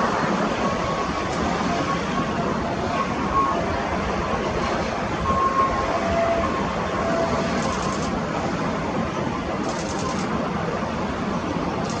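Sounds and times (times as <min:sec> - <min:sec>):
faint engine whine: 0:00.0 - 0:12.0
jet engines rushing: 0:00.0 - 0:12.0.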